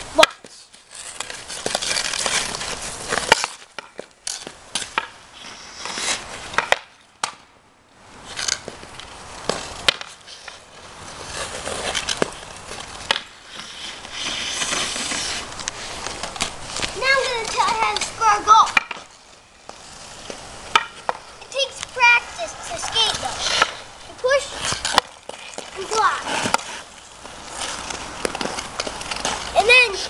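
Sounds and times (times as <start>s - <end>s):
skate blades scraping ice: 0.0s - 7.4s, 8.0s - 30.0s
hockey stick hitting puck: 0.2s - 0.5s, 1.1s - 5.2s, 5.8s - 7.5s, 8.3s - 30.0s.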